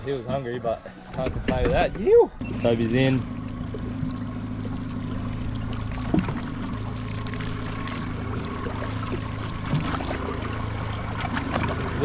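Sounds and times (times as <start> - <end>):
outboard motor idling: 0.0 - 12.0
water lapping against hull: 0.0 - 12.0.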